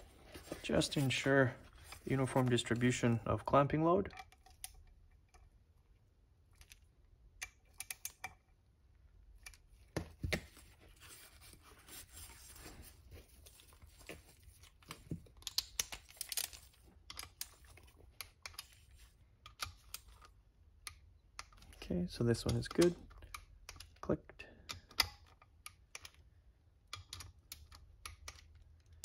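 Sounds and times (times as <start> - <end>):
soft handling noise: 0.0 - 7.0, 7.7 - 26.2.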